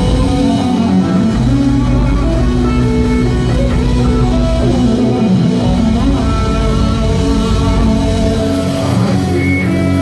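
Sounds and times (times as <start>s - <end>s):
electric guitar: 0.0s - 10.0s
live rock band: 0.0s - 10.0s.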